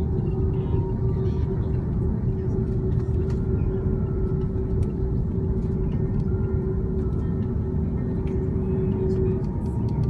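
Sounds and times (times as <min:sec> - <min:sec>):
aircraft cabin rumble: 0:00.0 - 0:10.0
steady hum: 0:00.0 - 0:10.0.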